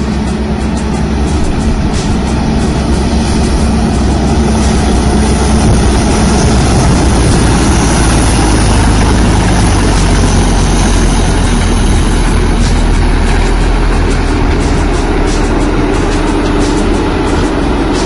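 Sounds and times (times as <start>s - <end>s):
heavy vehicle engine running: 0.0s - 18.0s.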